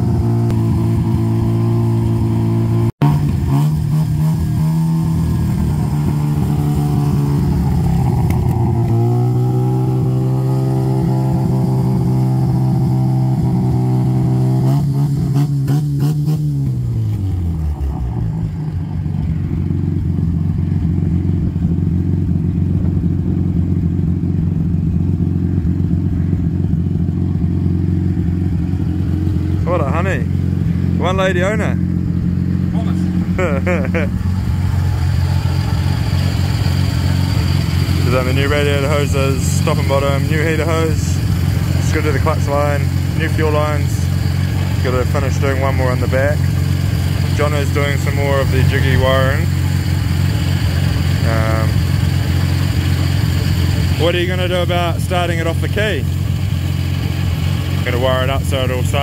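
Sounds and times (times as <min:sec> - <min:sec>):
rotary engine revving and idling: 0:00.0 - 0:59.0.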